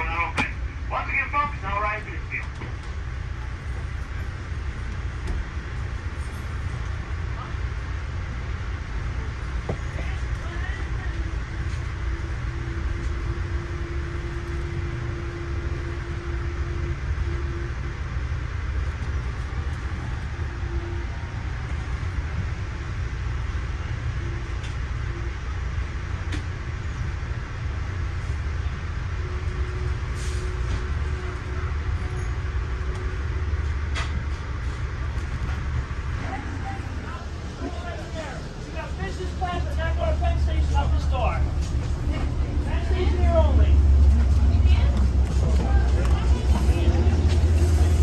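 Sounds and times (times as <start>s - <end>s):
diesel train engine rumble: 0.0s - 48.0s.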